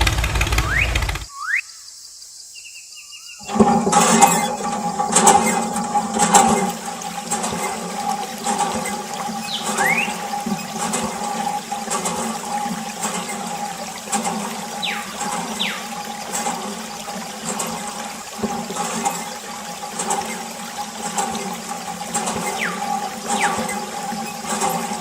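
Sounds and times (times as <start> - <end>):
water running and splashing: 3.4 - 25.0.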